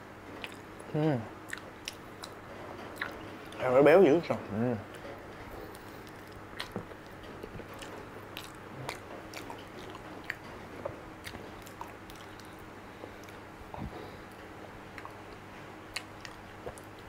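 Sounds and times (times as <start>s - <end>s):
wet chewing and smacking: 0.3s - 3.6s, 4.9s - 17.0s.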